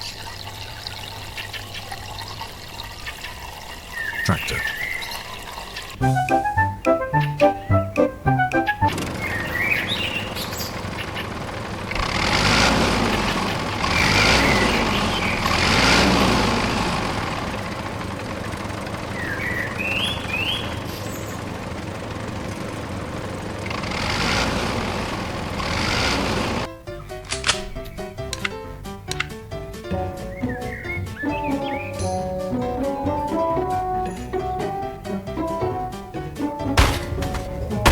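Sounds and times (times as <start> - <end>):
tractor engine running: 6.0 - 37.9.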